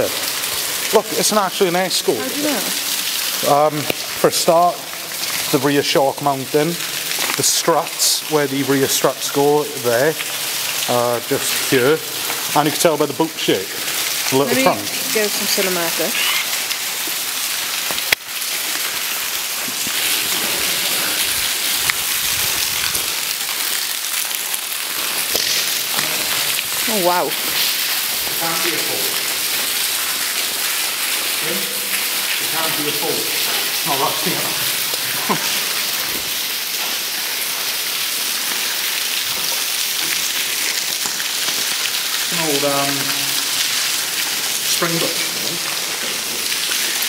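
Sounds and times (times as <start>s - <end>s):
water dripping and trickling: 0.0s - 47.0s.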